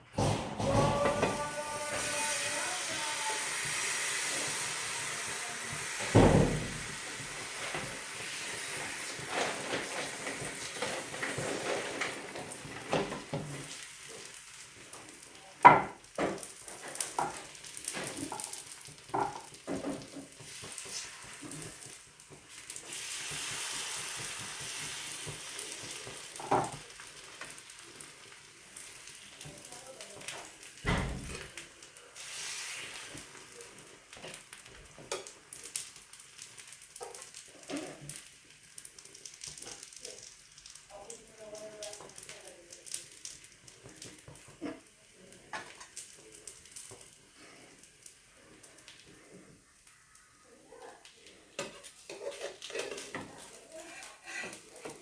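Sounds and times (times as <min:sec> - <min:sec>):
batter sizzling on a hot pan: 0:00.1 - 0:55.0.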